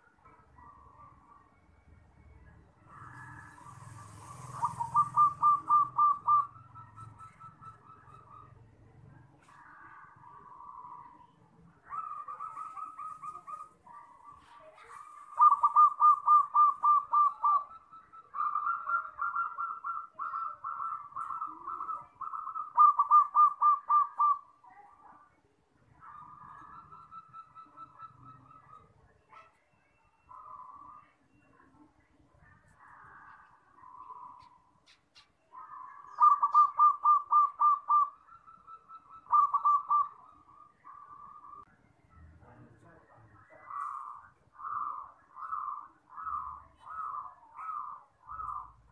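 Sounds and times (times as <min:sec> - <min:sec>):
dove cooing: 0:02.7 - 0:24.8, 0:25.9 - 0:41.7, 0:43.5 - 0:48.9.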